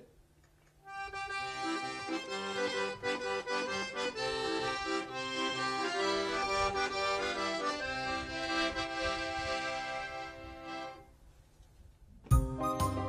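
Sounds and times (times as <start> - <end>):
piano accordion playing: 0.9 - 11.1, 12.3 - 13.0.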